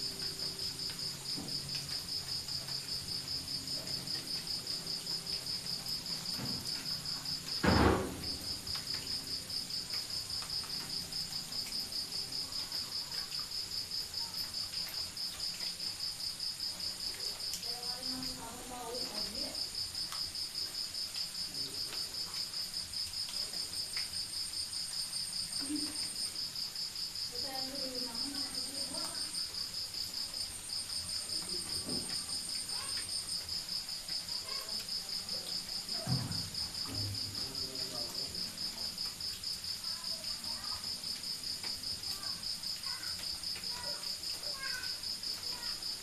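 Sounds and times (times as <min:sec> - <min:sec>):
crickets chirping: 0:00.0 - 0:46.0.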